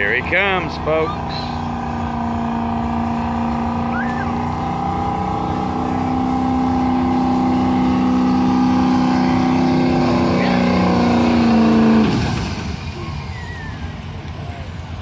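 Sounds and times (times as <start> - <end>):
diesel engine running hard: 0.0 - 15.0.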